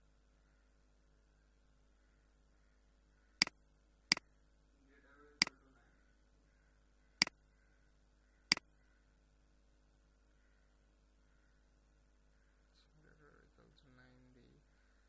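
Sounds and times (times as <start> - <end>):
faint low murmur: 0.0 - 15.0.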